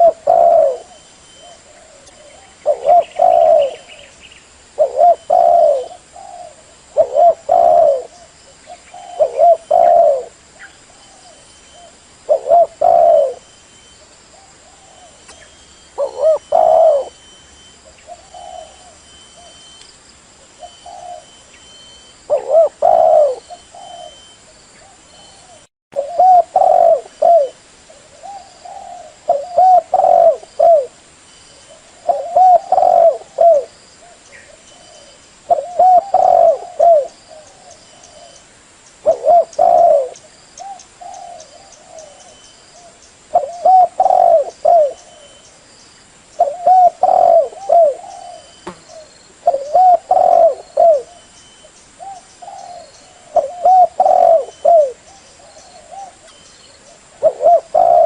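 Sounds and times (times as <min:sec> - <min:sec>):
dove cooing: 0:00.0 - 0:04.1, 0:04.8 - 0:13.5, 0:14.3 - 0:19.6, 0:20.6 - 0:31.0, 0:31.6 - 0:38.4, 0:39.0 - 0:45.5, 0:46.4 - 0:58.0.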